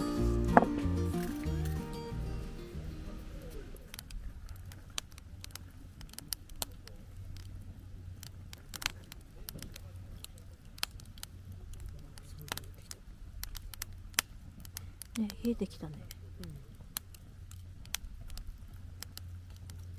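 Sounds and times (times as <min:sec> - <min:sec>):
campfire crackling and popping: 0:00.0 - 0:19.9.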